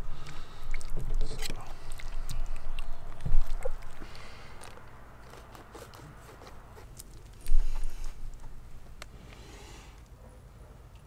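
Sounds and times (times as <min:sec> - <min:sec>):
wet squelches and clicks: 0:00.2 - 0:09.2.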